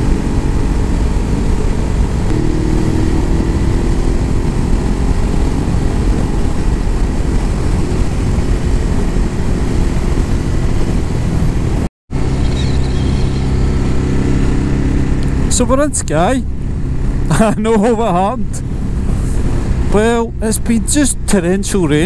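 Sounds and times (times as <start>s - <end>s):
wind rush on microphone: 0.0s - 17.7s, 18.3s - 20.5s
motorcycle engine: 0.0s - 22.0s.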